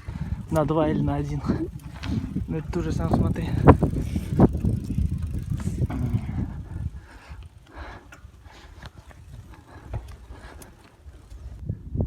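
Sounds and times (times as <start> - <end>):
bicycle riding on dirt: 0.0 - 12.0
wind buffeting microphone: 0.0 - 12.0.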